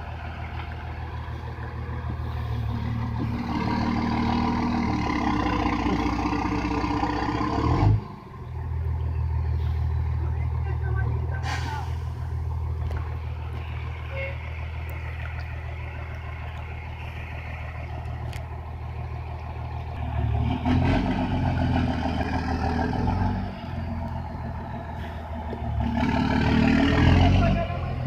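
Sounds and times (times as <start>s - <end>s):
heavy truck engine running: 0.0s - 28.0s.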